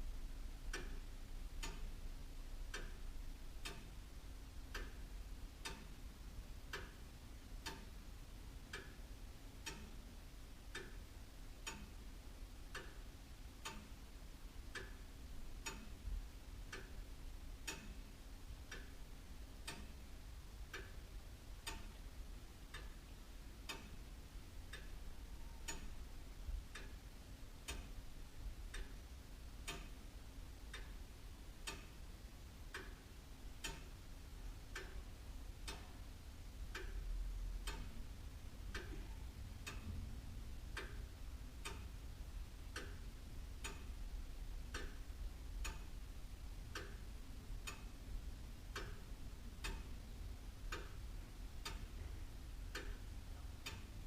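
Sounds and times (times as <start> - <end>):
clock ticking: 0.3 - 54.0.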